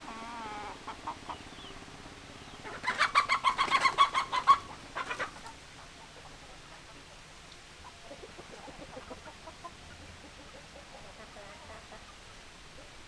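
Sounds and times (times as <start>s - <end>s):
hens clucking: 0.0s - 7.2s, 7.8s - 12.2s.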